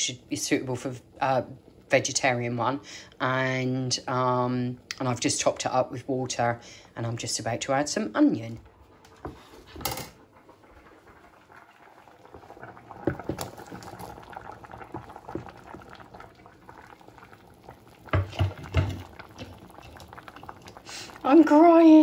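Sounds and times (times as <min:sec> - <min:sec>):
soup bubbling in a pot: 0:00.0 - 0:22.0.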